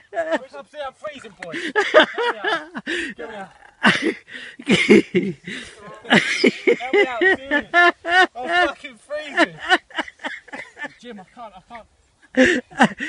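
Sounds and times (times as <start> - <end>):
people laughing hard: 0.0 - 0.6, 1.5 - 11.1, 12.3 - 13.0.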